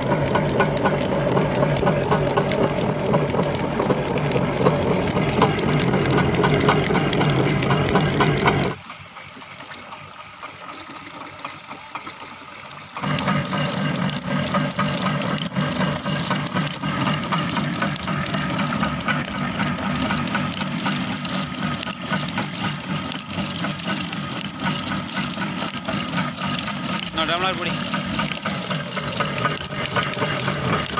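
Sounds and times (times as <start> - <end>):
crushing mill squealing and rumbling: 0.0 - 30.9.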